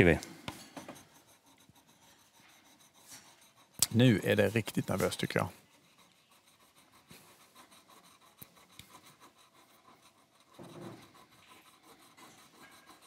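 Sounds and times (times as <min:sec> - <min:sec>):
coin scratching lottery ticket: 0:00.0 - 0:13.0.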